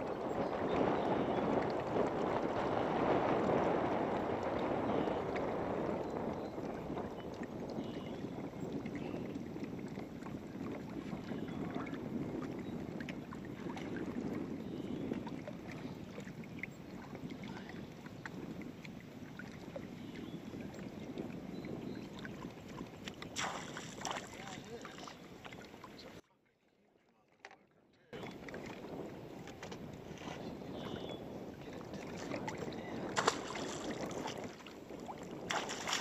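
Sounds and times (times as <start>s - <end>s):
wind on microphone: 0.0s - 26.2s, 28.2s - 36.0s
water lapping at hull: 0.0s - 36.0s.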